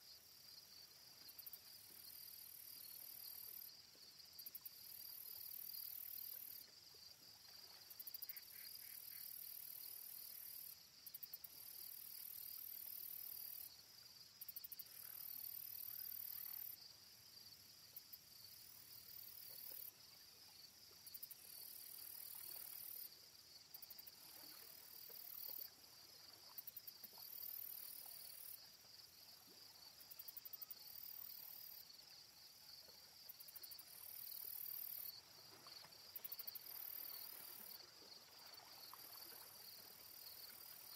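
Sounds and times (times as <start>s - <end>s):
insects trilling: 7.7s - 40.9s.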